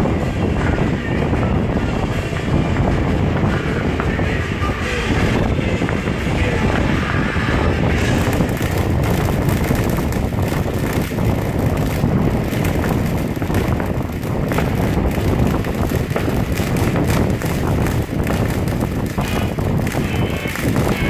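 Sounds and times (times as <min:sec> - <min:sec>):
firework fountain hissing and crackling: 0:00.0 - 0:21.0.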